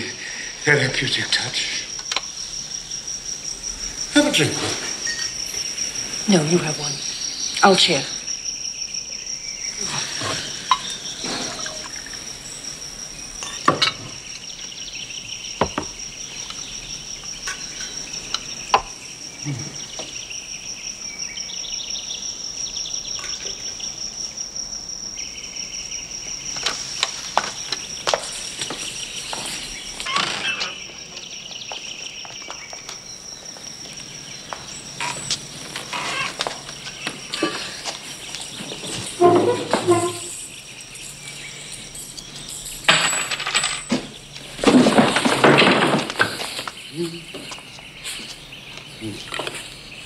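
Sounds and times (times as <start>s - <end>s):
cricket chirring: 0.0s - 50.0s
insect trills: 0.0s - 50.0s.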